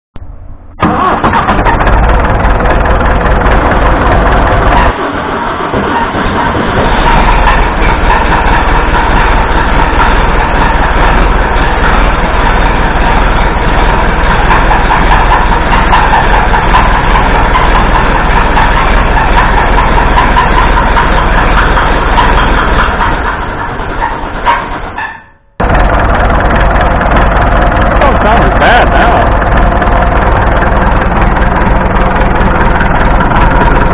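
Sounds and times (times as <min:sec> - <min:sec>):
tractor engine running with knock: 0:00.2 - 0:33.9.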